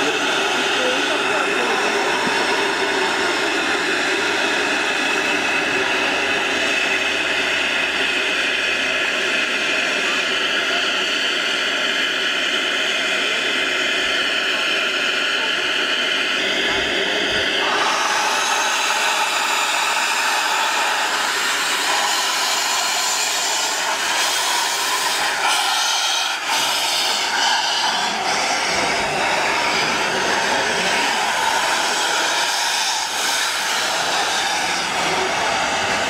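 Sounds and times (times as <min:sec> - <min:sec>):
steam locomotive venting steam: 0:00.0 - 0:36.0.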